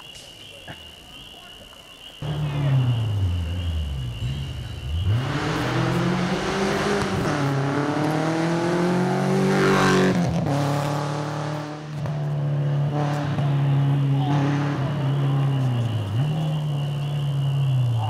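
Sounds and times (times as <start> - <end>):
rally car engine accelerating past: 2.2 - 18.0.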